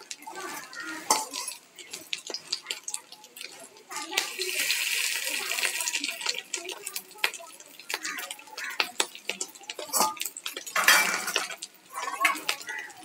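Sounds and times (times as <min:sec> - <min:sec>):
oil popping and crackling: 0:00.0 - 0:13.0.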